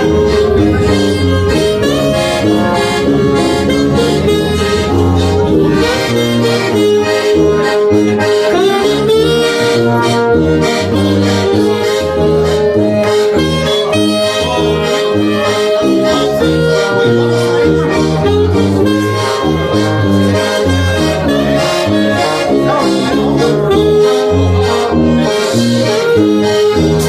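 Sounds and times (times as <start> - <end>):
held melody notes: 0.0 - 27.0
moving bass line: 0.0 - 27.0.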